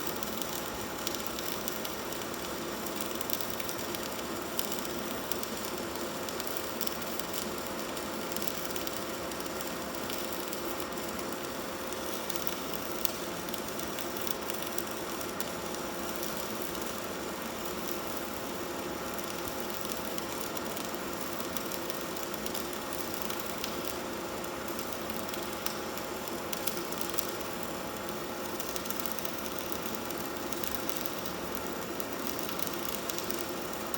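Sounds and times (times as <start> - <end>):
welding arc crackling and hissing: 0.0 - 33.9.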